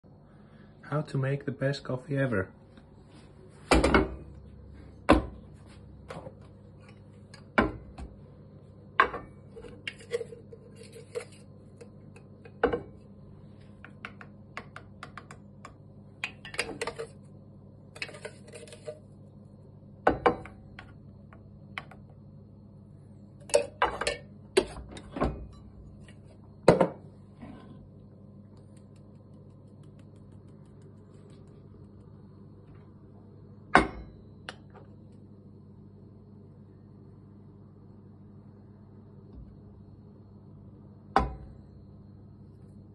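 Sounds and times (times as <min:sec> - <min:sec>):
faint low hum: 0:00.1 - 0:42.9.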